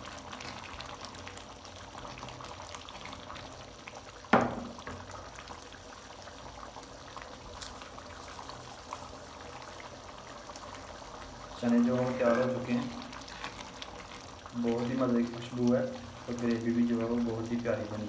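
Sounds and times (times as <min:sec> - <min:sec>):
curry simmering and bubbling in a pan: 0:00.0 - 0:18.0.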